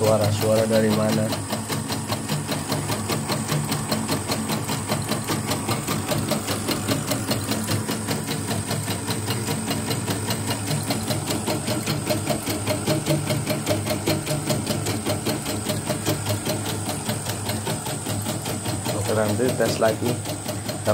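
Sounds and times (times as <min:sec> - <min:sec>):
embroidery machine stitching: 0:00.0 - 0:20.9
stray mechanical noises: 0:00.0 - 0:20.9.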